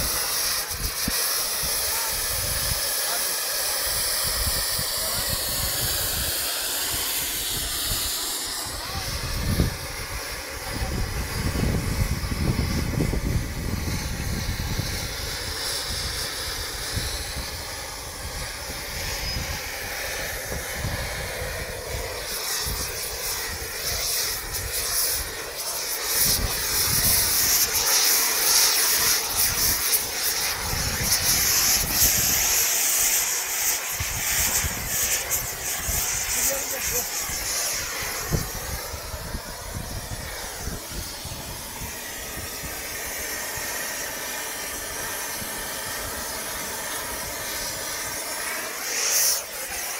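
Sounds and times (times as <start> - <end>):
gas torch flame hissing: 0.0 - 49.9.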